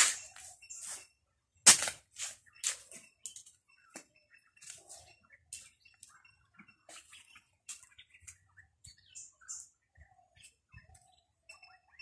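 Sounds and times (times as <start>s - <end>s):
faint bird chirps: 0.0s - 1.6s, 2.2s - 12.0s.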